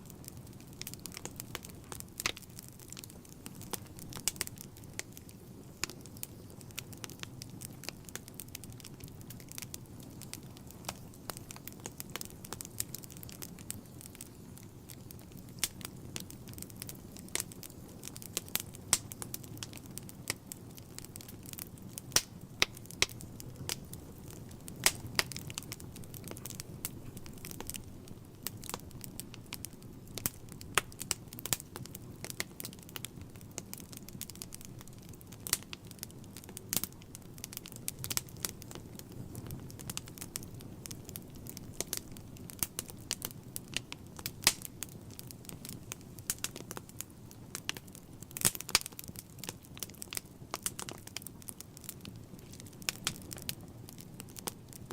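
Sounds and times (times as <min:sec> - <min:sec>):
low rumble of flames: 0:00.0 - 0:54.9
wood fire crackling: 0:00.0 - 0:54.9.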